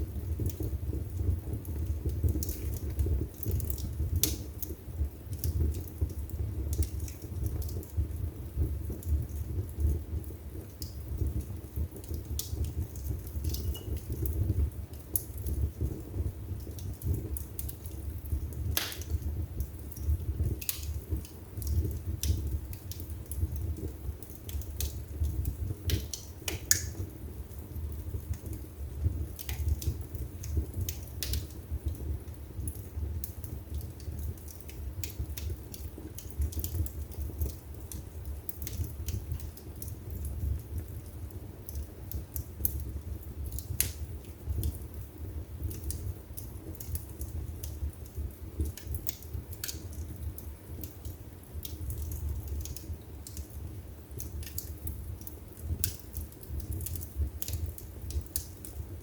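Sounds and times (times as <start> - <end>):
wood fire burning: 0.0 - 59.0.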